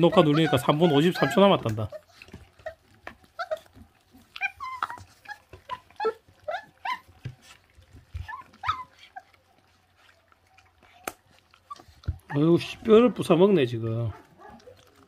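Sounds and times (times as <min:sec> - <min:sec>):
chewing and bone crunching: 0:00.0 - 0:15.0
puppies squeaking and whining: 0:00.0 - 0:15.0.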